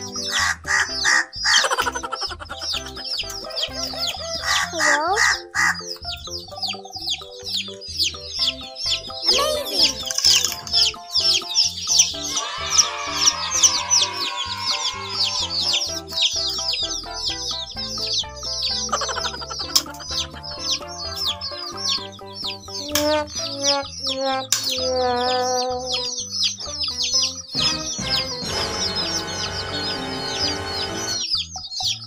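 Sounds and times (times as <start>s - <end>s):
baby chickens peeping: 0.0s - 32.0s
background music: 0.0s - 32.0s.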